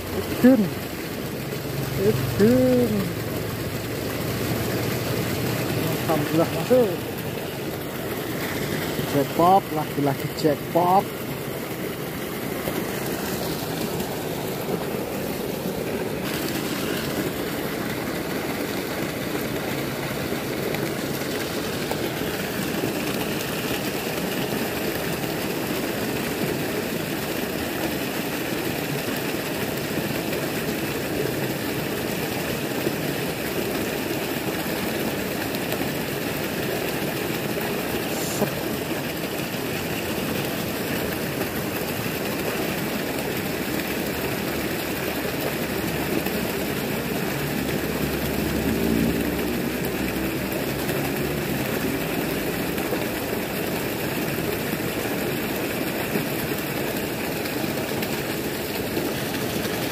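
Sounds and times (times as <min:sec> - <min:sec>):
water pouring over weir: 0:00.0 - 0:59.9.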